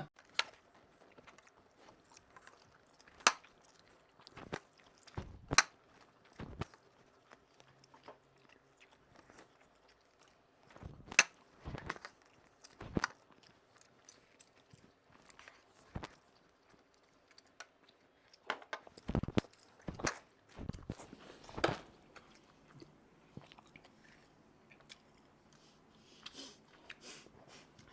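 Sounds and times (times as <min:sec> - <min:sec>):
people chewing and biting: 0:00.1 - 0:27.9.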